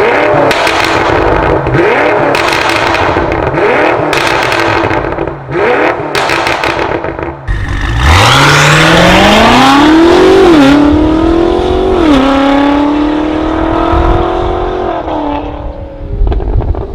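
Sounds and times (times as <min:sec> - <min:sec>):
car engine accelerating hard: 0:00.0 - 0:16.8.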